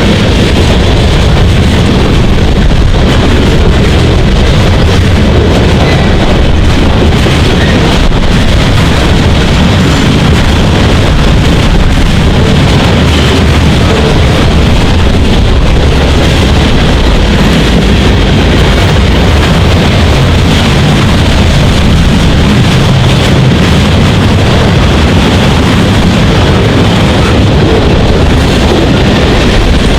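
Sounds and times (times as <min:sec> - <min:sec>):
freight train rumbling past: 0:00.0 - 0:29.9
wind buffeting microphone: 0:00.0 - 0:29.9.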